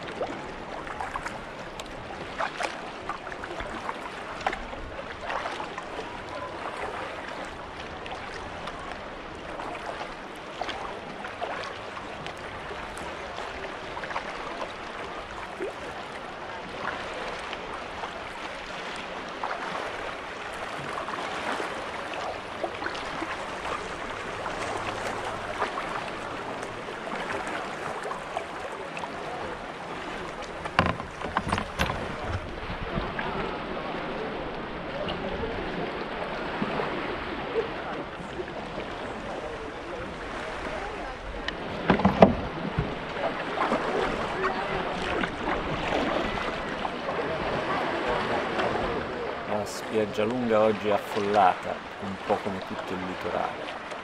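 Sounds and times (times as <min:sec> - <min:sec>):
paddle splashing: 0:00.0 - 0:54.0
water washing along hull: 0:00.0 - 0:54.0.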